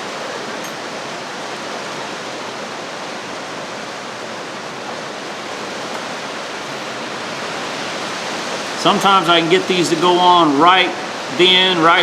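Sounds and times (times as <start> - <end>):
steady rushing hiss of fan: 0.0 - 12.0.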